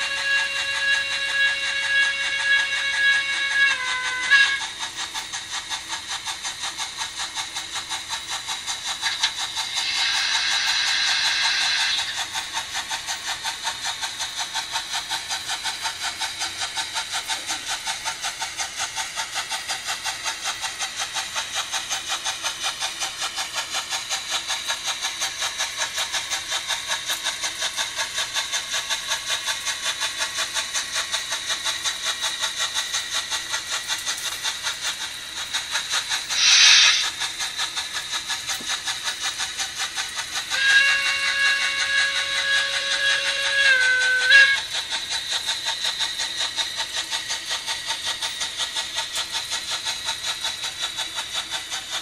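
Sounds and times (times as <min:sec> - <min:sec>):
rhythmic steam chuff: 0:00.0 - 0:52.0
steam hiss: 0:00.0 - 0:52.0.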